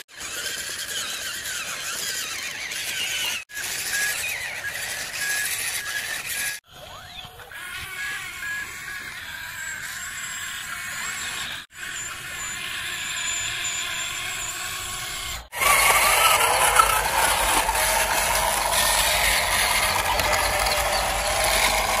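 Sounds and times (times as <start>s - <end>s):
toy vehicles whirring and grinding: 0.0s - 22.0s.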